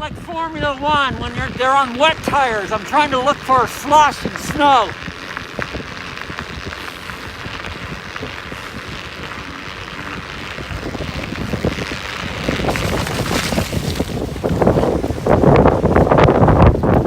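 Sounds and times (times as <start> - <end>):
studded tyres rolling over slush: 0.0 - 17.0
wind rushing over microphone: 0.0 - 17.0.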